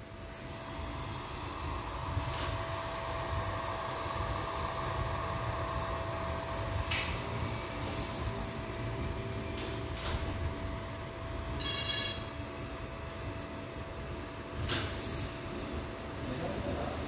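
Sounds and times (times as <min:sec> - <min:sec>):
electrical machine hum: 0:00.0 - 0:17.0
mid-pitched machine whine: 0:00.0 - 0:17.0.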